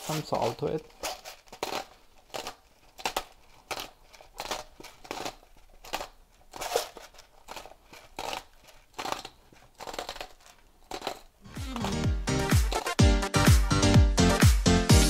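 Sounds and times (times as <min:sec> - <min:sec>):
salt grinder crunching: 0:00.0 - 0:13.0.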